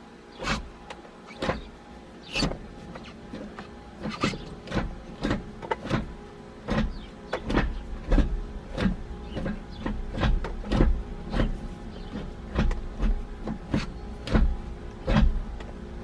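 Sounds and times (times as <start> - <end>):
gear shifter clunks and clicks: 0.4 - 15.8.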